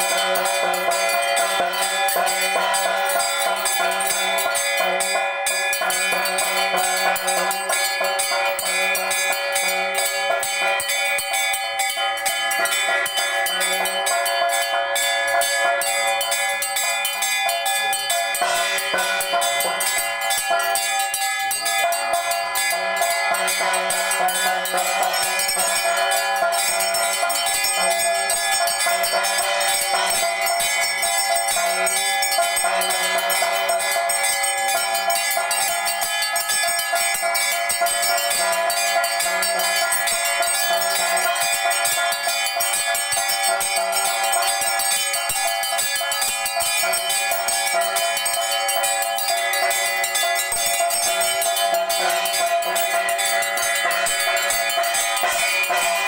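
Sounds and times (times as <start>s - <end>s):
temple bells ringing: 0.0s - 56.0s.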